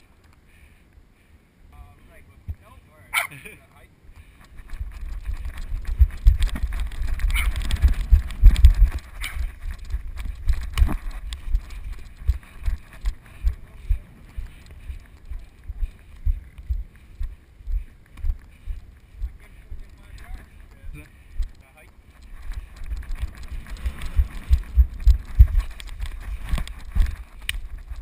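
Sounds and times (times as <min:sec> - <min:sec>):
footsteps on grass: 0:04.2 - 0:28.0.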